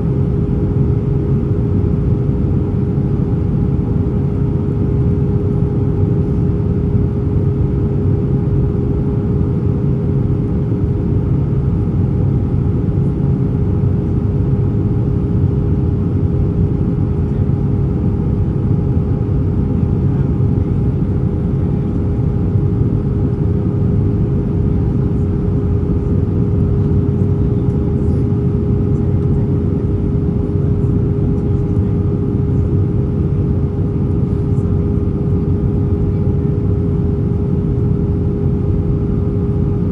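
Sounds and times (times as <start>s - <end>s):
aircraft cabin engine drone: 0.0s - 39.9s
constant hum tone: 0.0s - 39.9s.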